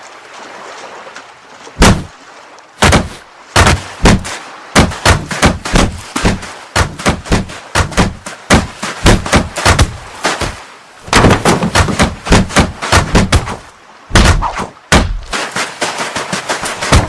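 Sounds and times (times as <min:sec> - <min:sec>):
cartoon crate knocks and bangs: 0:02.8 - 0:17.0.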